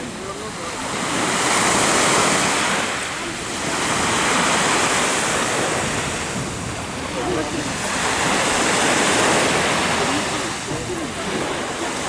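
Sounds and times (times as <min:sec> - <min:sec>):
waves breaking on shore: 0:00.0 - 0:12.0
wind: 0:00.0 - 0:12.0.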